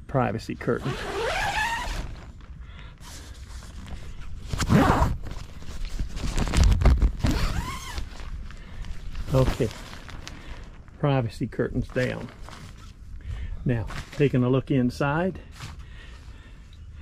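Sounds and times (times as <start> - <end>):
nylon fabric rustling: 0.7 - 14.7.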